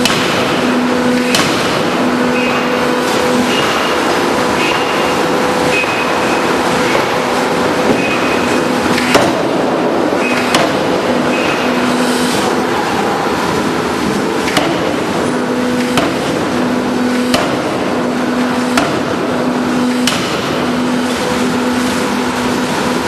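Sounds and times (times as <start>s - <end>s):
forging hammer blows: 0.0s - 22.4s
loud machine din with hum: 0.0s - 23.0s.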